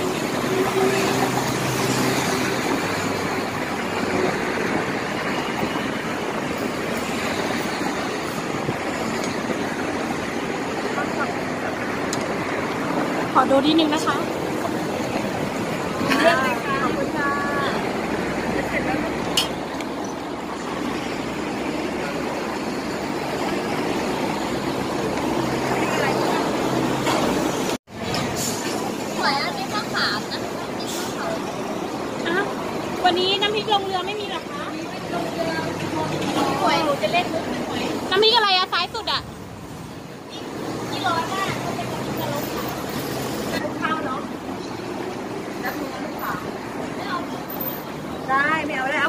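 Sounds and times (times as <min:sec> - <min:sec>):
road traffic: 0:00.0 - 0:49.0
vehicle engines running: 0:00.0 - 0:49.0.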